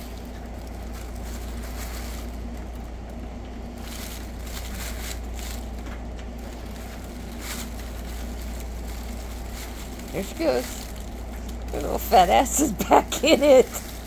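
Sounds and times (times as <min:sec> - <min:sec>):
fabric tunnel rustling: 0:00.0 - 0:14.0
steady low hum: 0:00.0 - 0:14.0.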